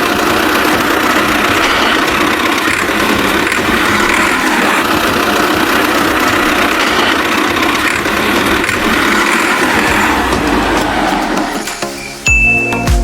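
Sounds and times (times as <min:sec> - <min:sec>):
engine running steadily: 0:00.0 - 0:11.7.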